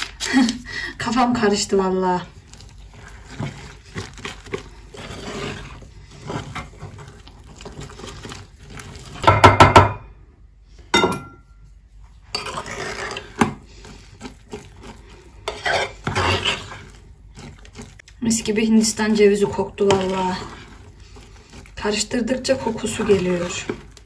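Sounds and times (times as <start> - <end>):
spoon scraping batter in bowl: 1.4 - 9.4, 11.5 - 24.0.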